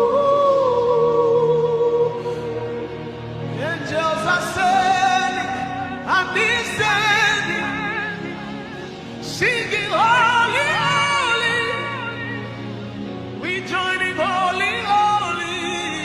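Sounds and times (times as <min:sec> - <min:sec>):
sustained backing music: 0:00.0 - 0:16.0.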